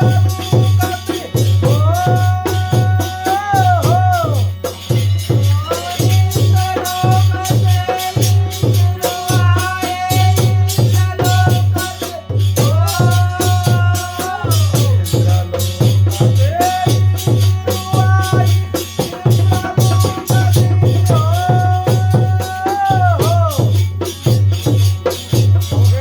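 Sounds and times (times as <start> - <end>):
jingling percussion: 0.0 - 26.0
steady drum beat: 0.0 - 26.0.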